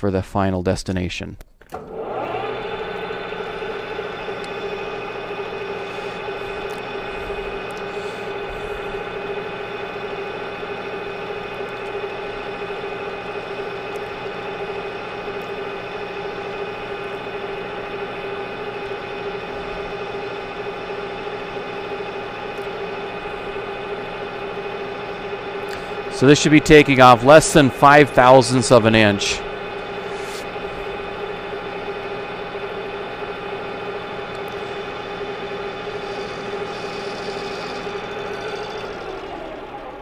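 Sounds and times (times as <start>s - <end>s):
metal lathe humming: 1.7s - 40.0s.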